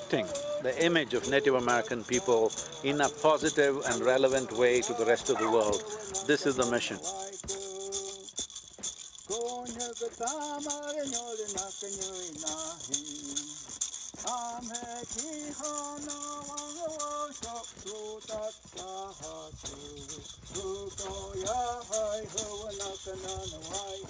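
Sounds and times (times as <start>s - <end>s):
fast high percussion: 0.0s - 24.0s.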